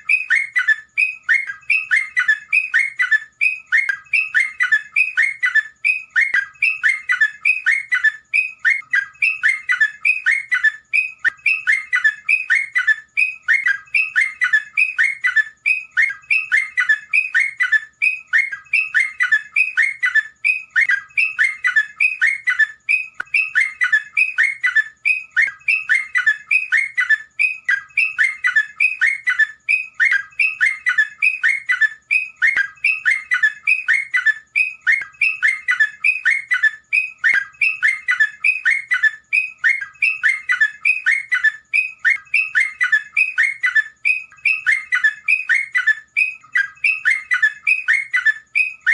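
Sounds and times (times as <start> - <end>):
bulbul singing: 0.0 - 48.9.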